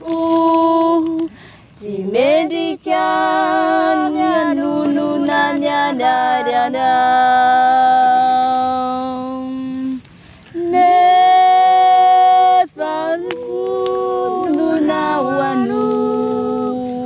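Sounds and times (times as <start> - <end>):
voices singing long notes: 0.0 - 17.0.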